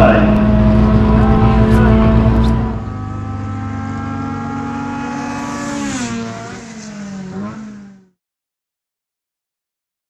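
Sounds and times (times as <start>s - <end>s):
drag car engine at high revs: 0.0s - 8.2s.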